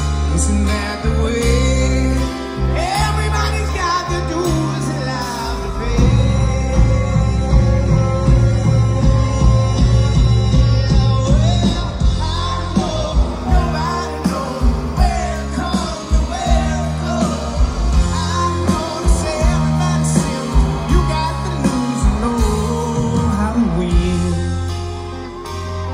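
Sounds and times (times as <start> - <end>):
live rock band playing: 0.0 - 25.9
person singing: 0.0 - 25.9.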